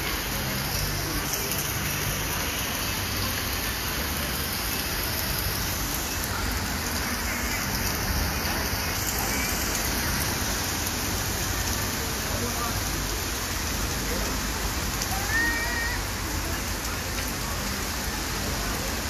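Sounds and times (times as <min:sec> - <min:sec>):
heavy rain on paving: 0:00.0 - 0:19.0.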